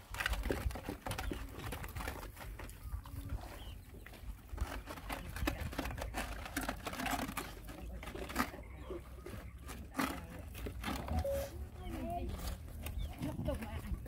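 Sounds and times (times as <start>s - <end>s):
dogs lapping and chewing: 0.0s - 14.0s.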